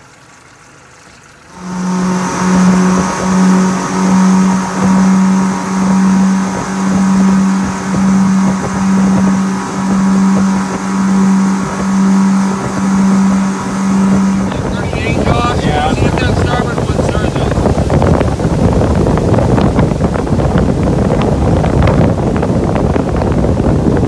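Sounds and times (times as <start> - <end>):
outboard motors droning: 1.3 - 24.0.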